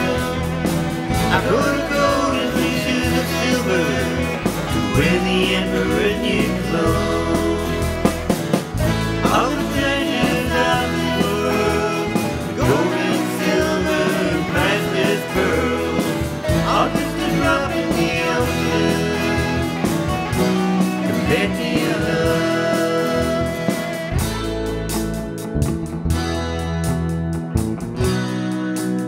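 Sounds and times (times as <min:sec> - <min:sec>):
person singing: 0:00.0 - 0:24.2
pop-rock band playing: 0:00.0 - 0:29.0.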